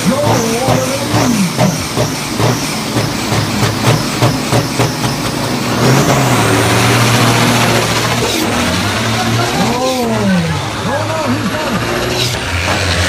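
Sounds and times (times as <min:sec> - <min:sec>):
diesel truck engine revving: 0:00.0 - 0:13.0.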